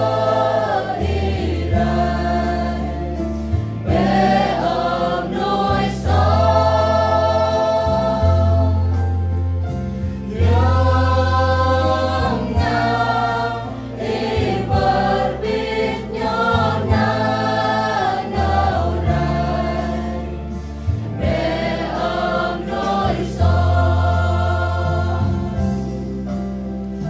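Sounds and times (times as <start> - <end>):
mixed choir singing hymn: 0.0 - 27.0.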